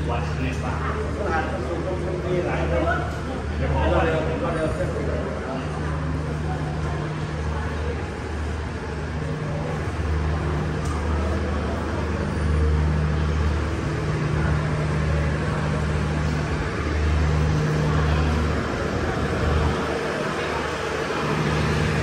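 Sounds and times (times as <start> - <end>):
steady background noise: 0.0 - 22.0
vehicle engine hum: 0.0 - 22.0.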